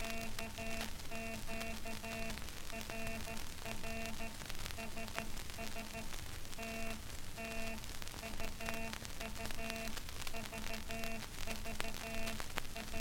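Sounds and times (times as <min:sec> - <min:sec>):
morse code buzzing tone: 0:00.0 - 0:13.0
record hiss and crackle: 0:00.0 - 0:13.0.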